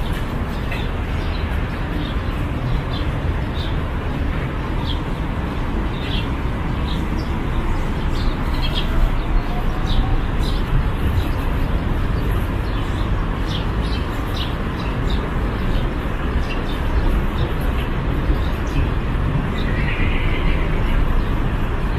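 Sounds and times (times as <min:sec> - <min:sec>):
low traffic rumble: 0:00.0 - 0:21.9.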